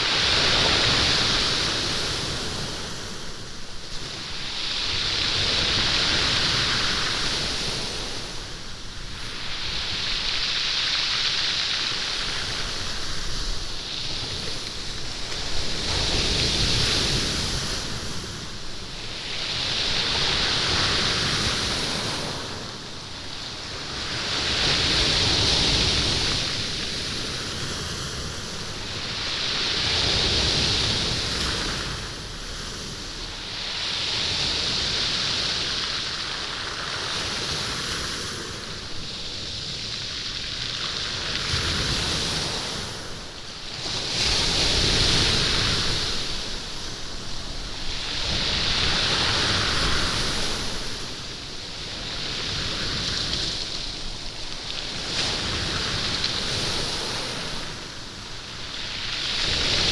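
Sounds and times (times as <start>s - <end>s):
waves on stony beach: 0.0s - 59.9s.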